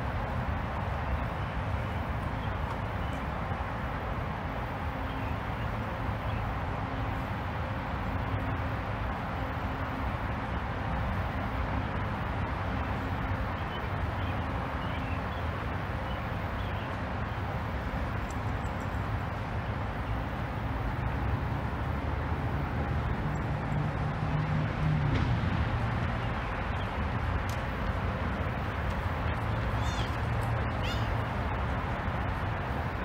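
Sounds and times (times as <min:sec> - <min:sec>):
low vehicle rumble: 0:00.0 - 0:33.0
road traffic hum: 0:00.0 - 0:33.0.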